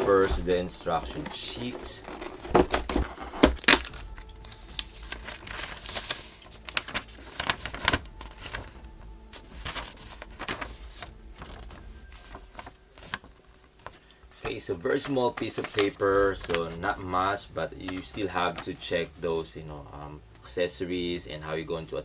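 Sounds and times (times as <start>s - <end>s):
plastic packaging crinkling: 0.0s - 19.0s
paper rustling: 0.0s - 19.1s.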